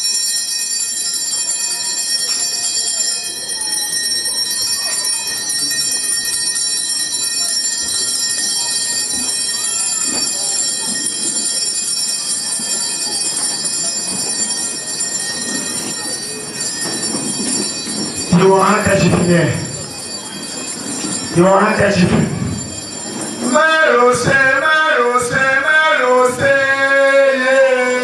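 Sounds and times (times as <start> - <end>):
small bells ringing: 0.0 - 28.0.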